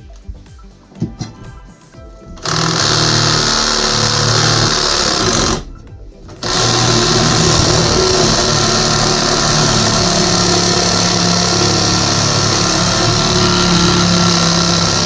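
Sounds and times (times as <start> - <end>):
power tool running loudly: 2.4 - 5.7, 6.3 - 15.0.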